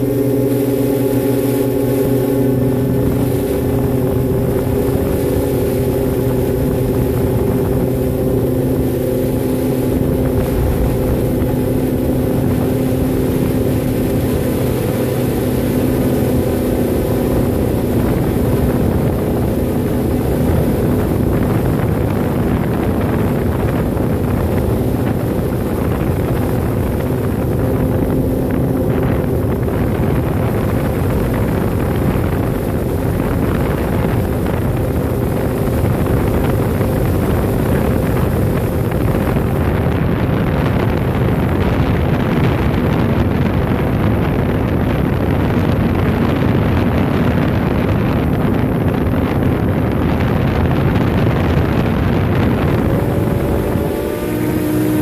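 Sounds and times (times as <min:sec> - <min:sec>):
drone motors humming: 0:00.0 - 0:42.2, 0:47.7 - 0:55.0
wind on microphone: 0:00.0 - 0:55.0.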